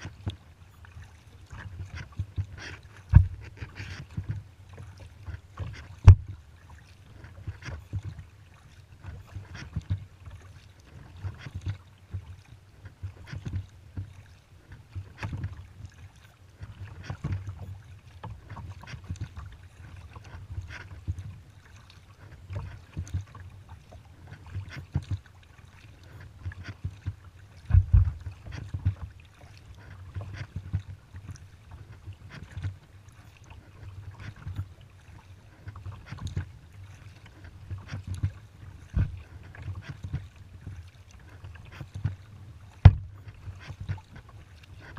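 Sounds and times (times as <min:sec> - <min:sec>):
paddle splashing into water: 0:01.0 - 0:44.9.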